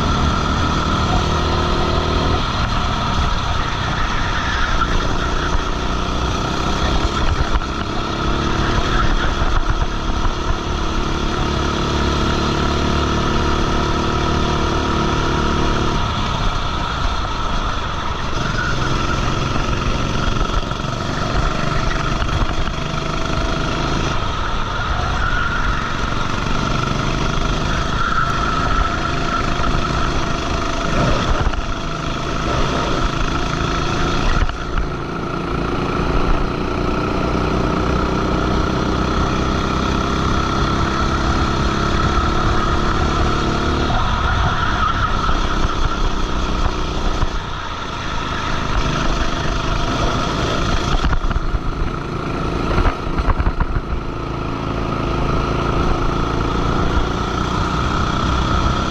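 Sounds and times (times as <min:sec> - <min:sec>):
go-kart engine accelerating: 0:00.0 - 0:58.9.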